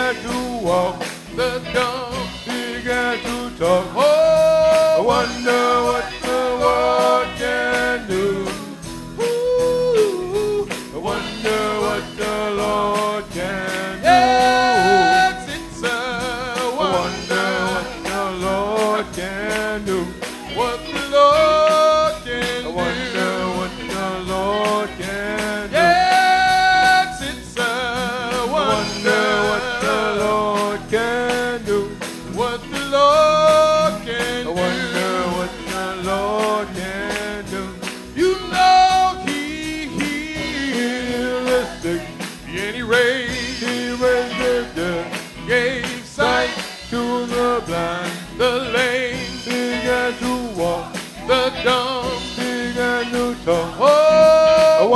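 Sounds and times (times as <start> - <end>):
church band playing: 0.0 - 54.9
man singing gospel: 0.0 - 54.9.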